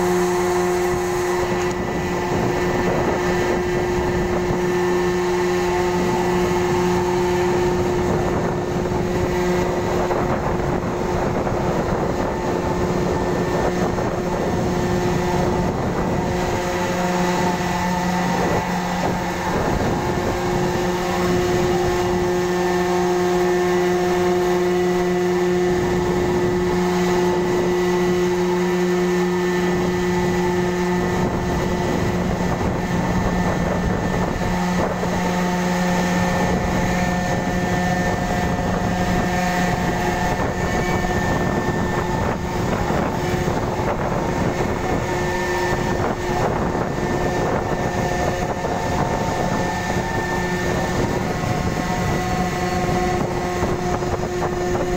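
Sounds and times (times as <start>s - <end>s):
ferry engines droning: 0.0s - 54.9s.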